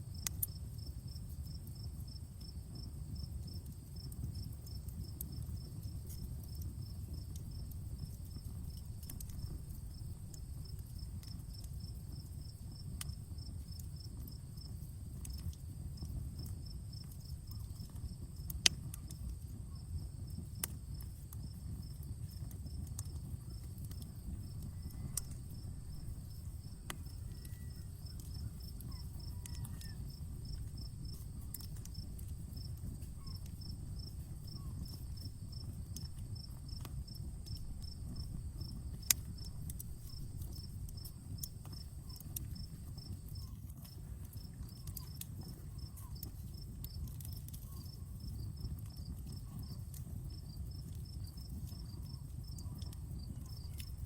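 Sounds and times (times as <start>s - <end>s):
campfire crackling: 0.0s - 54.0s
crickets chirping: 0.2s - 18.5s, 19.4s - 54.0s.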